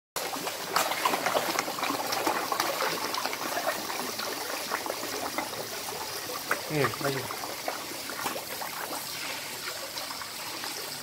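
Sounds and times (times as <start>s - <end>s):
fish splashing in a pond: 0.2s - 11.0s.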